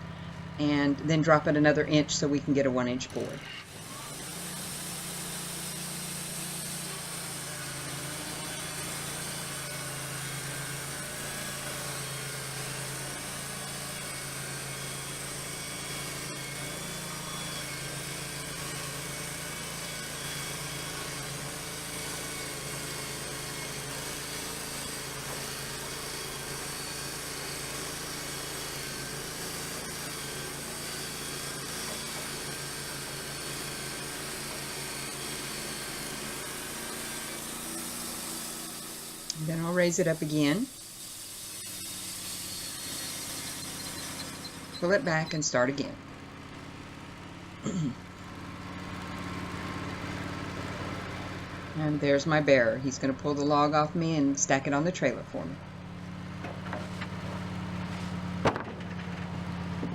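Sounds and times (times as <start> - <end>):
band saw cutting log: 0.0 - 59.9
sawmill engine running: 0.0 - 59.9.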